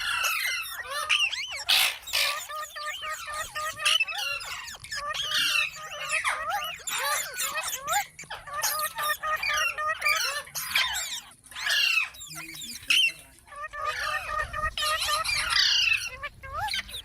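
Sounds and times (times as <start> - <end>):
parakeets chattering: 0.0 - 17.0.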